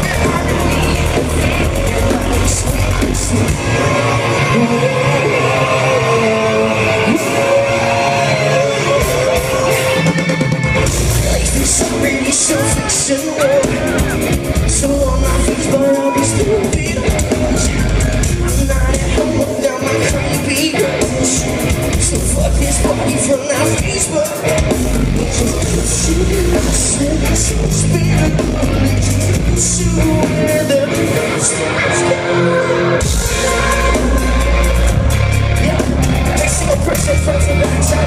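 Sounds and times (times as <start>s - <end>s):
live rock band playing: 0.0s - 38.0s
singer's vocals: 0.0s - 38.0s.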